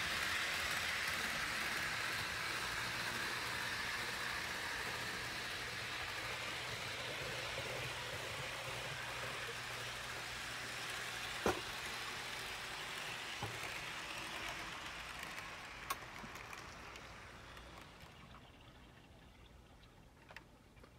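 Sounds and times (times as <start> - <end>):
model train motor whirring: 0.0 - 18.6.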